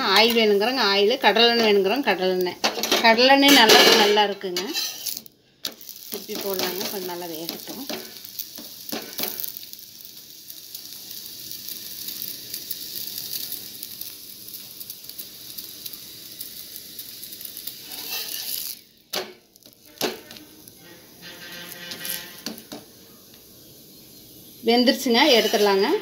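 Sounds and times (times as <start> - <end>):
oil sizzling on griddle: 0.0 - 26.0.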